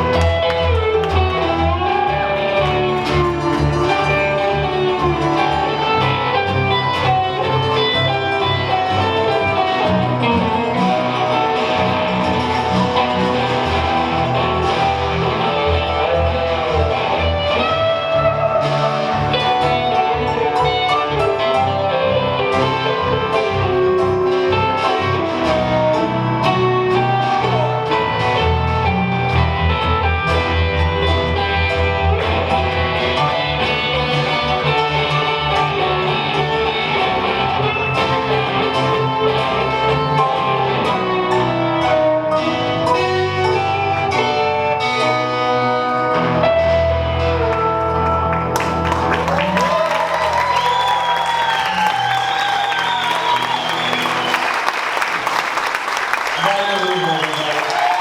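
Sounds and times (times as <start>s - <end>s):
live band guitar music: 0.0s - 58.0s.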